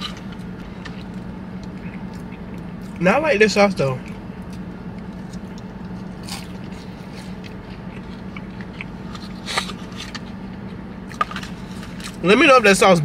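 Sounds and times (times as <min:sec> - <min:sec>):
person biting and chewing: 0:00.0 - 0:03.0, 0:04.0 - 0:12.2
steady low hum: 0:00.0 - 0:13.0.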